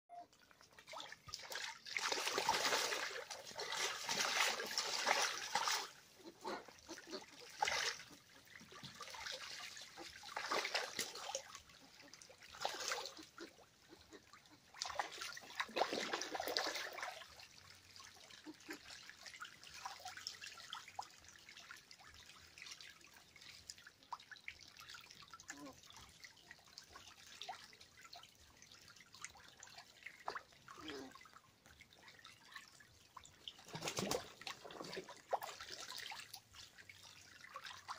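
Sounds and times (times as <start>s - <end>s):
ducks splashing in water: 0.4s - 37.9s.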